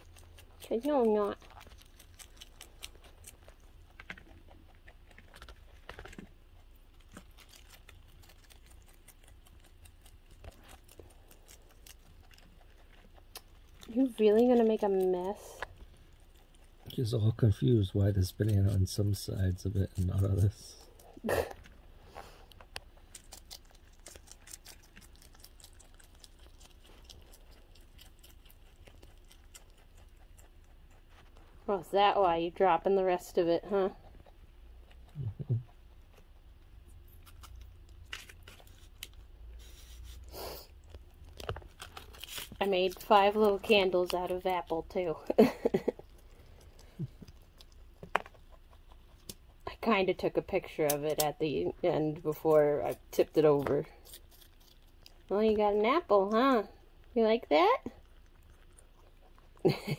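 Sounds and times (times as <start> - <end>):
rabbit chewing lettuce: 0.0 - 59.9.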